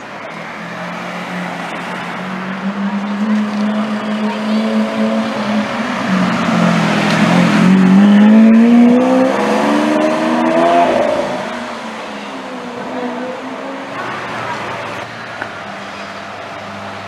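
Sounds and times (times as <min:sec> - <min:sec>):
sports car engine accelerating: 0:00.6 - 0:16.8.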